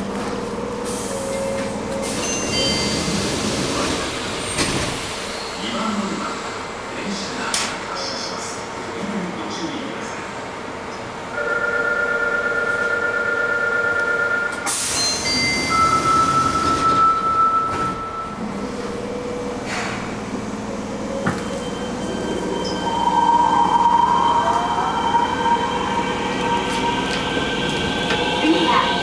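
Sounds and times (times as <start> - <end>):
subway train running: 0.0 - 29.0.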